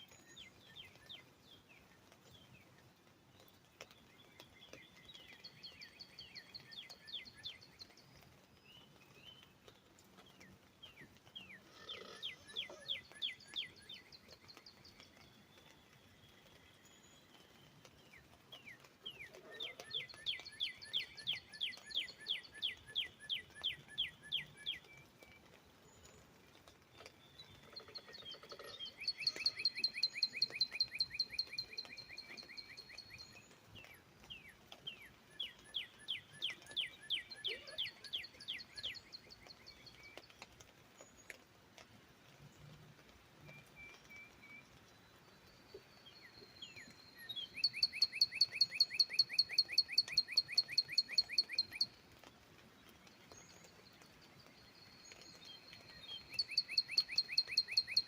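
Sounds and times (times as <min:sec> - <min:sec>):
bird singing: 0:00.0 - 0:02.6, 0:03.4 - 0:09.5, 0:10.2 - 0:26.2, 0:27.0 - 0:40.3, 0:43.4 - 0:52.0, 0:53.0 - 0:58.0
faint steady hiss: 0:00.0 - 0:58.0.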